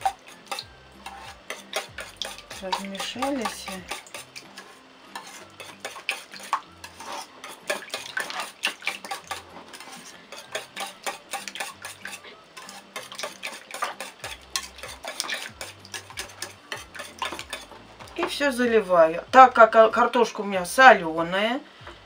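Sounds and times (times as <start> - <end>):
wire whisk beating batter in bowl: 0.0 - 18.9.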